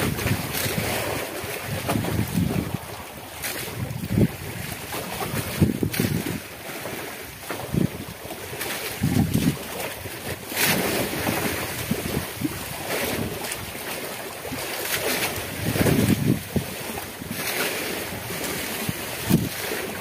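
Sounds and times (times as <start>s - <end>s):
wind gusting across microphone: 0.0s - 13.9s, 14.5s - 20.0s
sea waves washing: 0.0s - 20.0s.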